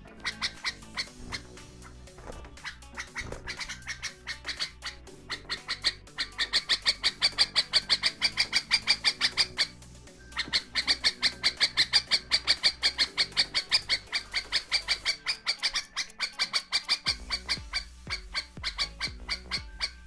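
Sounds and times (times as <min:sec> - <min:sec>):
bird alarm call: 0:00.0 - 0:20.0.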